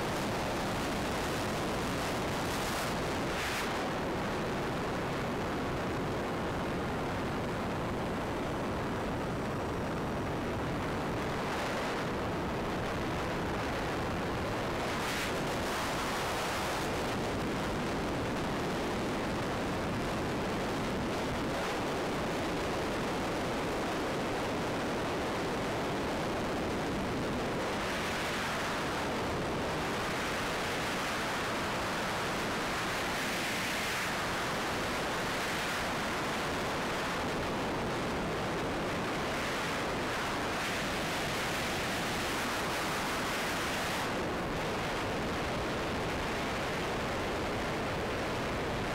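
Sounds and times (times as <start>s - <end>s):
rushing wind noise: 0.0s - 48.9s.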